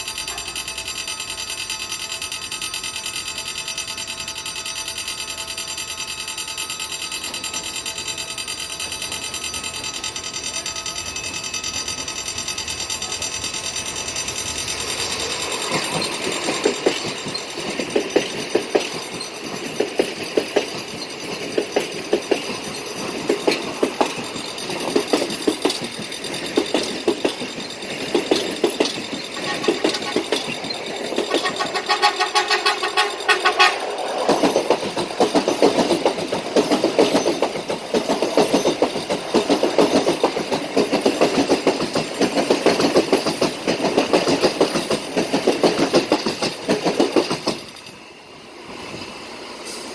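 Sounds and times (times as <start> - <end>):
train humming with high tones: 0.0 - 49.9
train wheels clacking on rail joints: 0.0 - 49.9.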